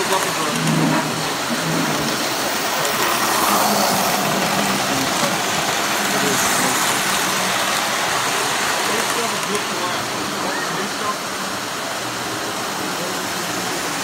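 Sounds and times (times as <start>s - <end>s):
model trains rolling on metal track: 0.0s - 14.0s.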